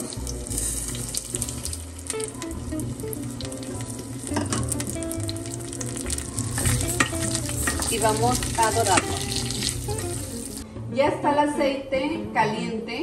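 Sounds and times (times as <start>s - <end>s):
crackling in oil: 0.0s - 10.6s
rice pattering into pot: 0.0s - 10.6s
soft background music: 0.0s - 13.0s.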